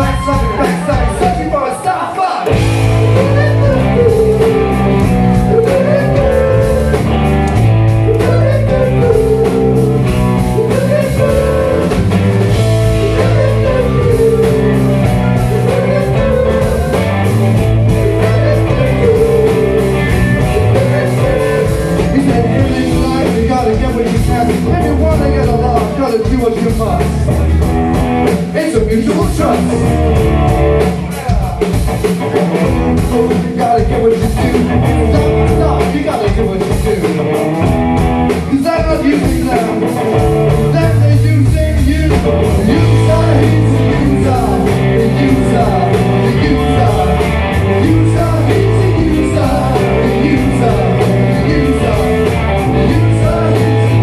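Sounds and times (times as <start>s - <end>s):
man singing: 0.0s - 30.2s, 32.6s - 37.4s, 38.3s - 54.0s
rock band playing live: 0.0s - 54.0s.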